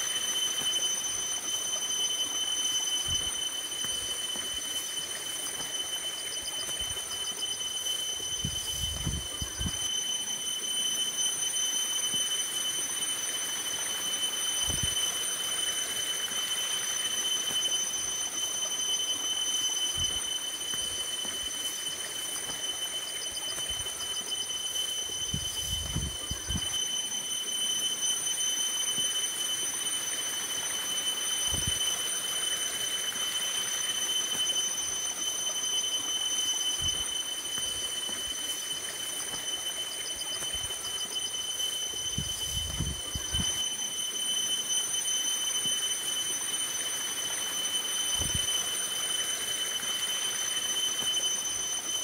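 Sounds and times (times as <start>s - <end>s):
high-pitched insect whine: 0.0s - 52.0s.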